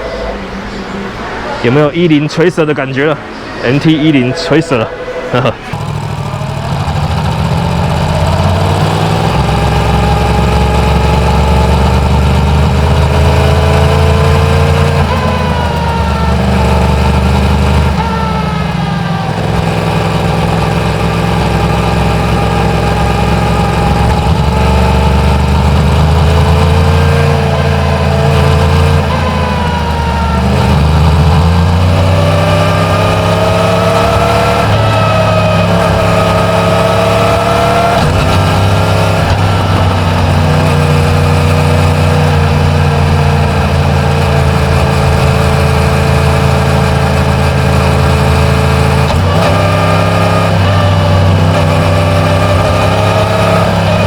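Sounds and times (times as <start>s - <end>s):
motorcycle engine revving: 5.2s - 54.0s.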